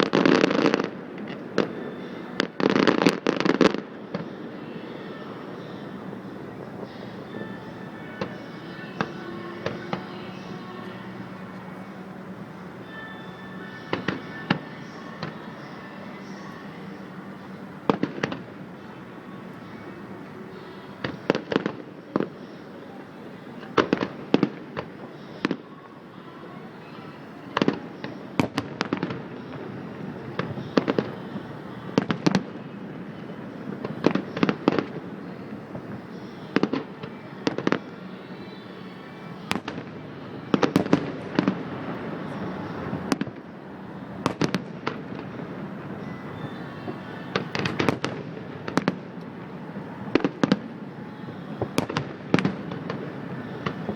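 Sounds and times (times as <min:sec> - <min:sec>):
fireworks exploding: 0:00.0 - 0:53.9.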